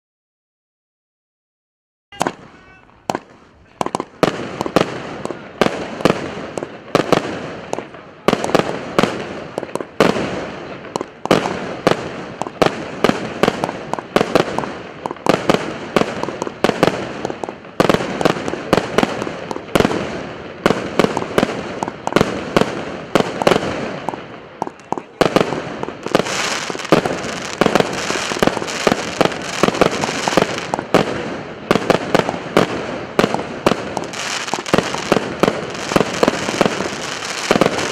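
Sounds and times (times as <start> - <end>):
firework cake bangs: 3.1 - 37.9.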